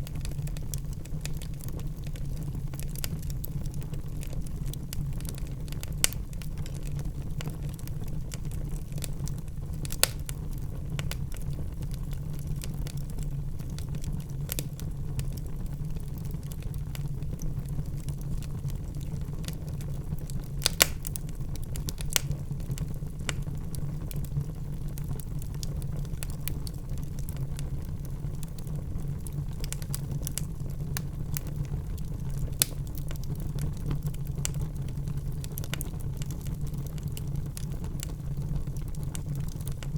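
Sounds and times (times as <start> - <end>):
burning logs popping: 0.0 - 39.9
low rumble of flames: 0.0 - 39.9
wood fire crackling: 0.0 - 39.9.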